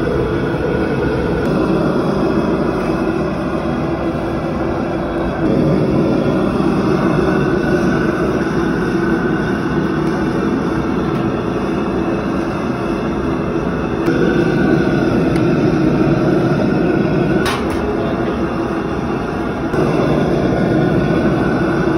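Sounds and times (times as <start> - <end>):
gas burner rushing: 0.0 - 21.9.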